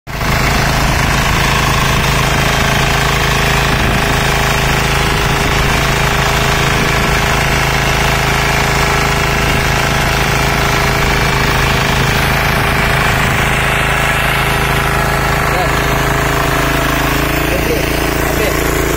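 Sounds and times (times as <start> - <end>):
diesel engine knocking: 0.1 - 18.9
tines churning mud: 0.1 - 18.9.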